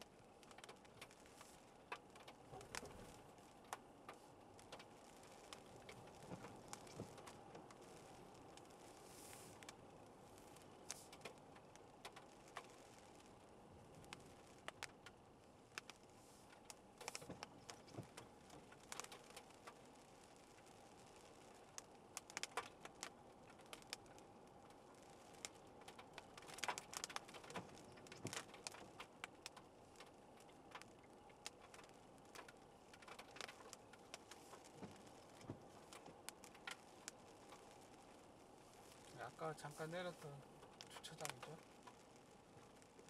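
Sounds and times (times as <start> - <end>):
raindrops tapping on car roof: 0.0 - 43.0.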